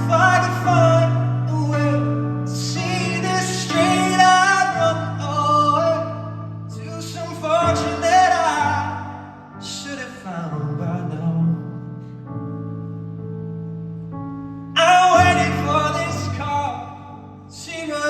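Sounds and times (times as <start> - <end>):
person singing wordless vocals: 0.0 - 12.0, 14.8 - 18.0.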